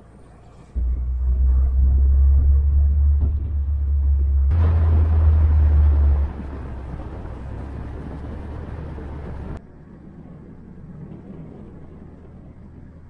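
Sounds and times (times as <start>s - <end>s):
car engine rumble: 0.0s - 13.0s
wind noise: 0.8s - 13.0s.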